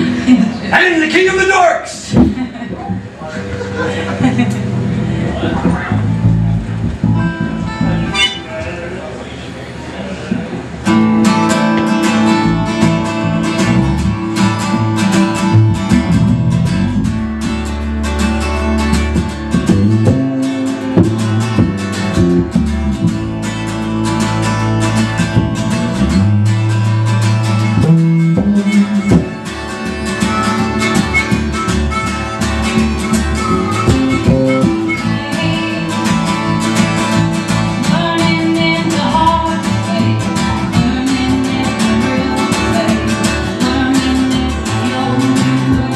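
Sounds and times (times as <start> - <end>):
live band music: 0.0 - 8.8, 10.7 - 45.9
strummed acoustic guitar: 0.0 - 9.2, 10.2 - 45.9.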